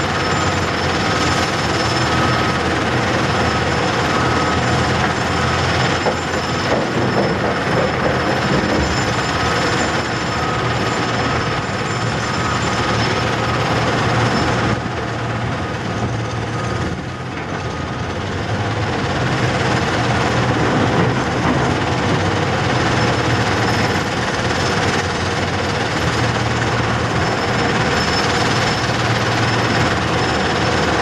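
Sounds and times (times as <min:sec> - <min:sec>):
excavator engine and hydraulics: 0:00.0 - 0:31.0.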